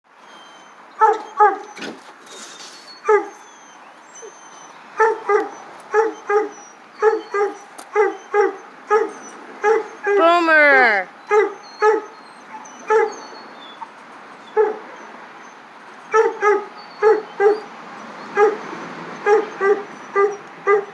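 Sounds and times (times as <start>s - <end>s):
dog whining yelps: 0.2s - 17.7s, 18.3s - 18.6s, 19.2s - 20.9s.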